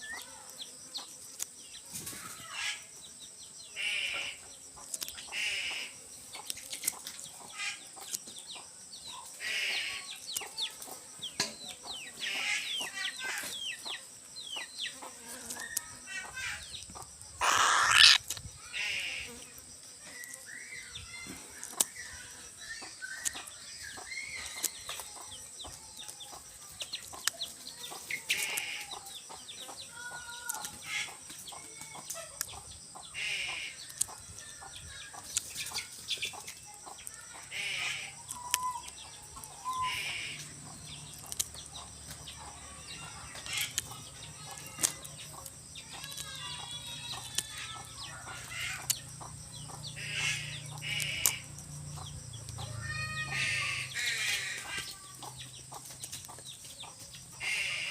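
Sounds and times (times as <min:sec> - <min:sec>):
chickens clucking: 0:04.1 - 0:18.6, 0:21.2 - 0:57.9.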